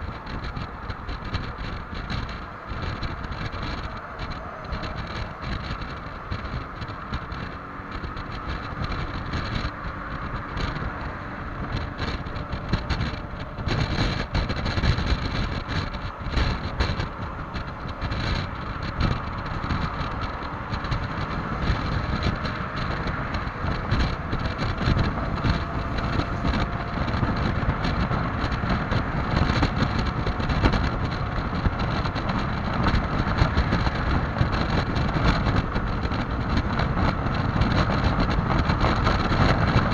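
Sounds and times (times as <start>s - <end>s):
scooter engine droning: 0.0s - 39.9s
wind buffeting microphone: 0.0s - 39.9s.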